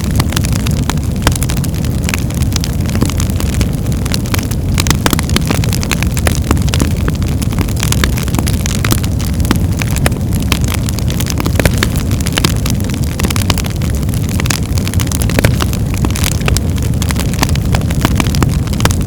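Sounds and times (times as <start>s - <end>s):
fire flames rumbling: 0.0s - 19.0s
wood crackling and popping: 0.0s - 19.0s.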